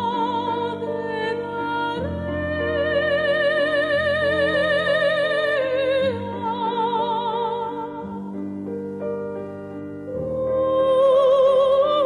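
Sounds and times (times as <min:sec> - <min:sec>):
slow music with held notes: 0:00.0 - 0:12.0.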